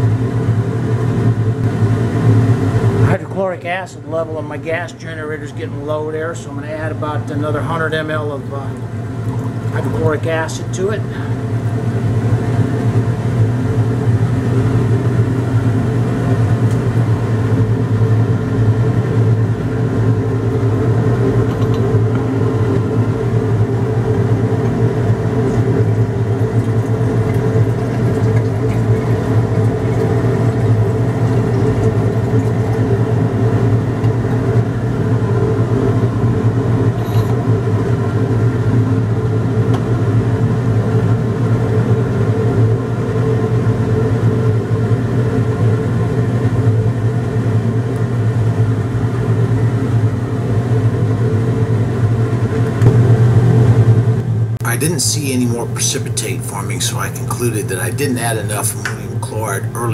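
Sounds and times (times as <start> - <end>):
exhaust fan humming: 0.0 - 59.9.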